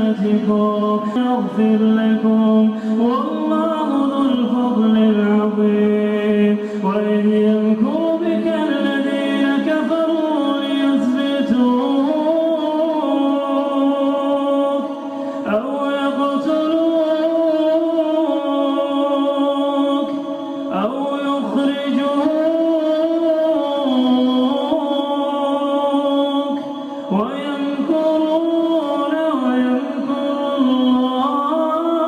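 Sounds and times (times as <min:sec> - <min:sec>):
man chanting melodically: 0:00.0 - 0:32.0.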